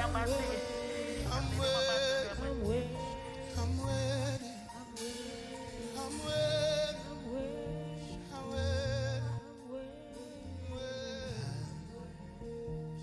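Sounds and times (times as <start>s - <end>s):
slow worship music: 0.0s - 13.0s
sustained low bass notes: 0.0s - 13.0s.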